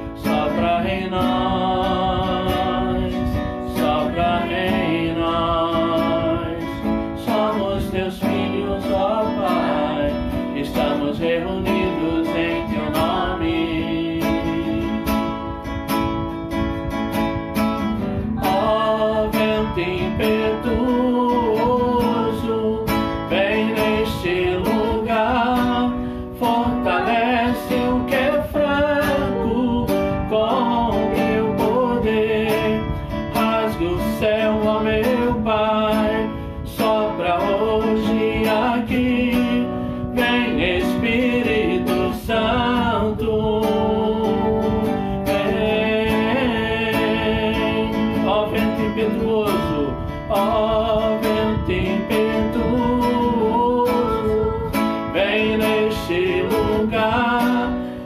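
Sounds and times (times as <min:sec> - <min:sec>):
voices singing: 0:00.0 - 0:15.4, 0:18.0 - 0:58.0
acoustic guitar strumming: 0:00.0 - 0:58.0.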